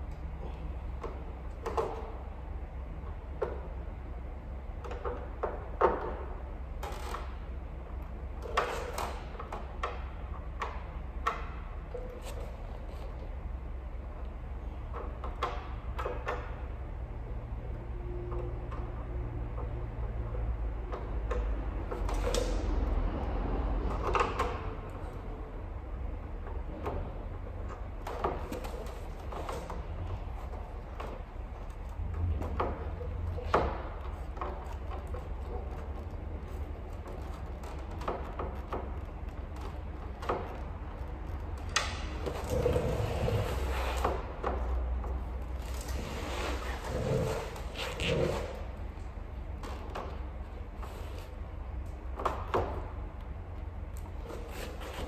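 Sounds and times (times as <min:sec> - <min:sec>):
sharp clicks and knocks: 0:00.0 - 0:13.5, 0:14.2 - 0:17.0, 0:18.2 - 0:46.0, 0:46.8 - 0:55.0
steady low hum: 0:00.0 - 0:55.0.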